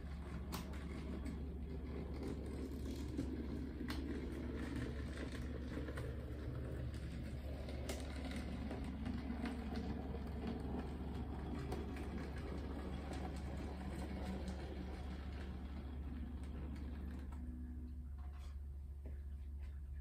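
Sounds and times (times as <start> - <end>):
model train rumbling on rails: 0.0 - 17.4.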